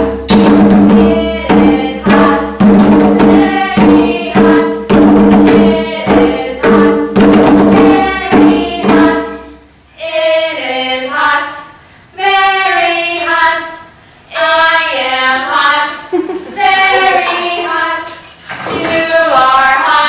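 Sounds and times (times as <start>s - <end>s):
group of voices singing unaccompanied: 0.0s - 20.0s.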